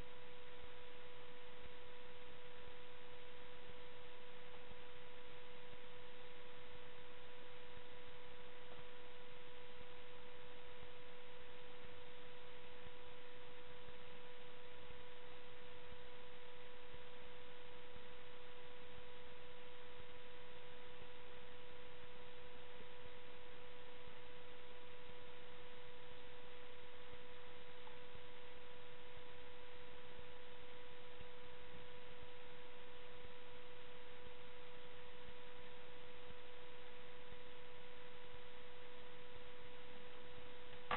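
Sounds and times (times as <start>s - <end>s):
constant hiss: 0.0s - 40.9s.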